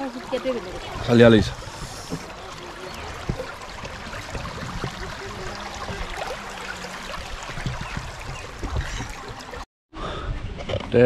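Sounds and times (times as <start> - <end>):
river water rushing: 0.0 - 9.6.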